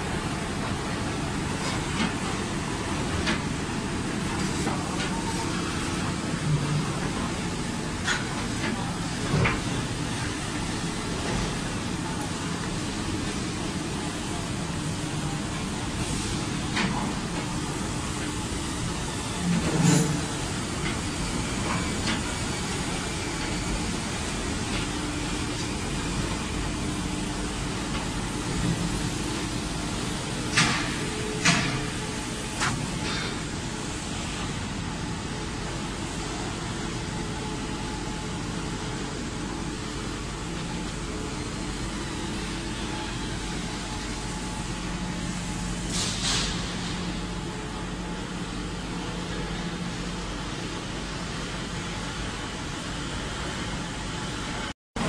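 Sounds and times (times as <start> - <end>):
machinery mechanical drone: 0.0 - 55.0.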